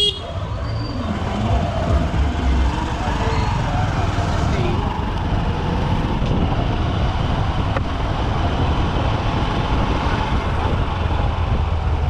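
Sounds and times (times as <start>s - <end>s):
motorcycle engine running: 0.0s - 12.0s
road traffic noise: 0.0s - 12.0s.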